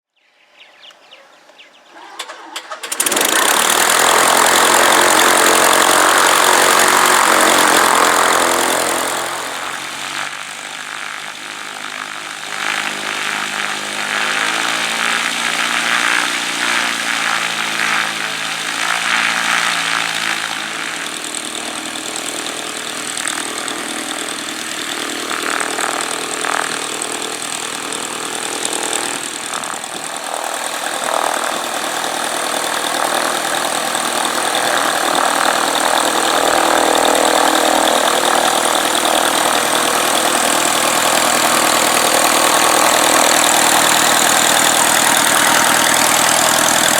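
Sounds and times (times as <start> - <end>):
small plane piston engine: 1.9 - 46.9.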